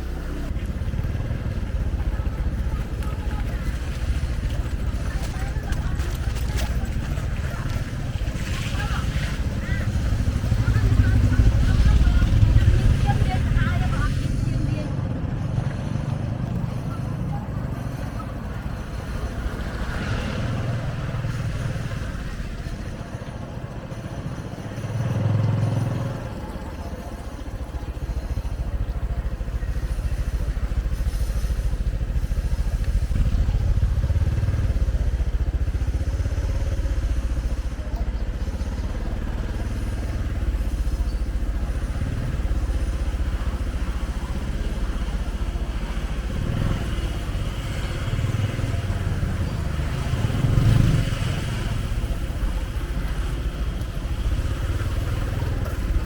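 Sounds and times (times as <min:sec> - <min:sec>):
motorbike engines rumbling: 0:00.0 - 0:56.0
road traffic: 0:00.0 - 0:56.0.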